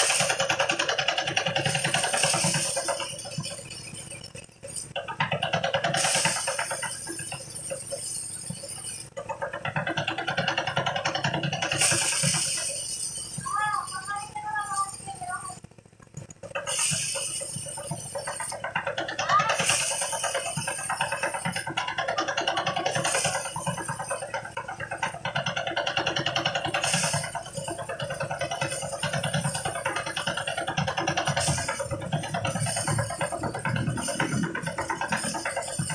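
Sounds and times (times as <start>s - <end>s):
rice thresher rattling: 0.0s - 15.5s, 16.4s - 35.9s.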